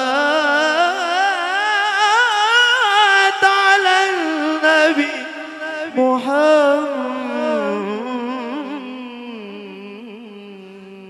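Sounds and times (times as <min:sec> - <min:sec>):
solo voice singing devotional phrase: 0:00.0 - 0:11.0.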